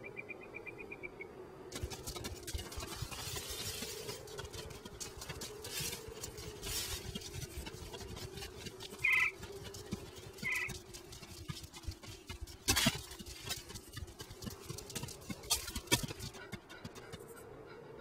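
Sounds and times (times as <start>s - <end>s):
scratchy crackle: 1.7s - 16.4s.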